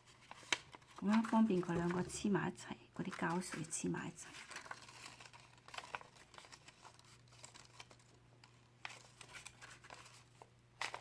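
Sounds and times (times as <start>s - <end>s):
paper rustling and crinkling: 0.0s - 2.3s, 3.0s - 11.0s.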